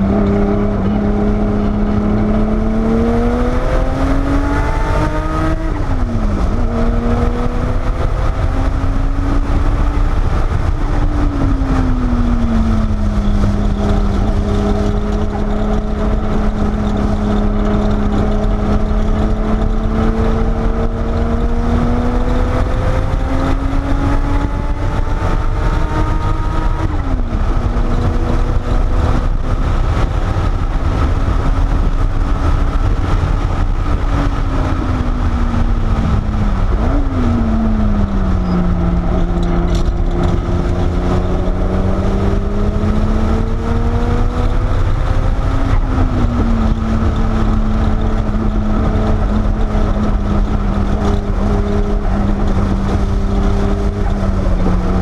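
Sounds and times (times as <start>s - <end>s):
car engine revving: 0.0s - 55.0s
heavy low rumble: 0.0s - 55.0s.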